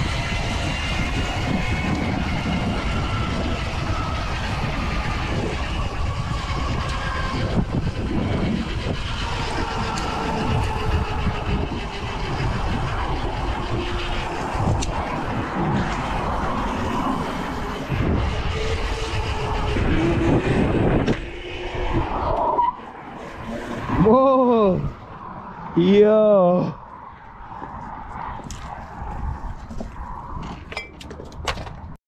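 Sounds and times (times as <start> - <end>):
faint falling whines: 0.0 - 28.2
passing road traffic: 0.0 - 32.0
wind buffeting microphone: 0.0 - 32.0.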